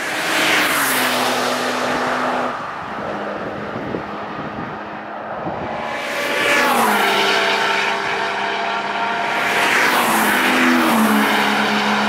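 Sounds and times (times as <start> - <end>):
car passing at speed: 0.0 - 12.0.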